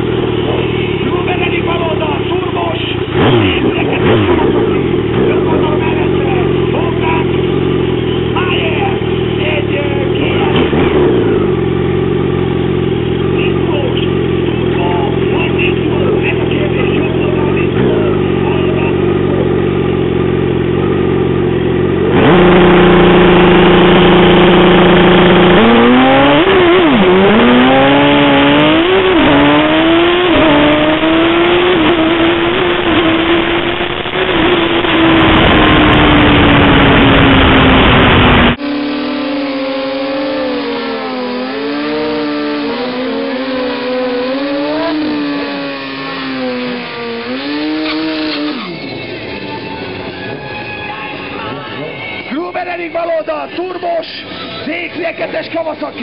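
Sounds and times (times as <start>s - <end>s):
motorcycle engine revving: 0.0s - 52.1s.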